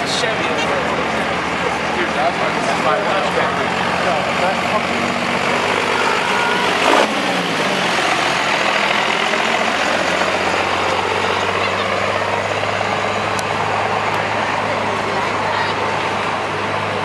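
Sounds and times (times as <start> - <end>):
diesel truck engine driving past: 0.0 - 17.0.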